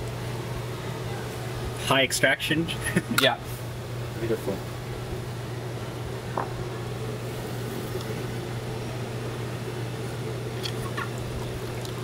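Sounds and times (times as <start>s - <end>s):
low hum of room equipment: 0.0s - 12.0s.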